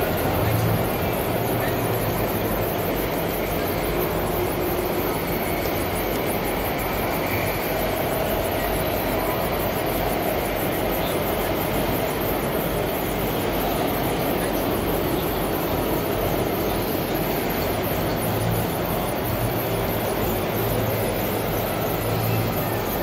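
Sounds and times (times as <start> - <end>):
busy exhibition hall din: 0.0 - 23.0.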